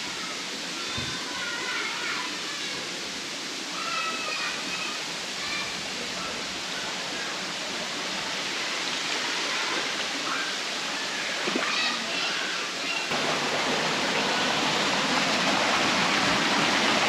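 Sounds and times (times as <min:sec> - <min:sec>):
distant children's voices: 0:00.0 - 0:17.0
waterfall rushing into pool: 0:00.0 - 0:17.0.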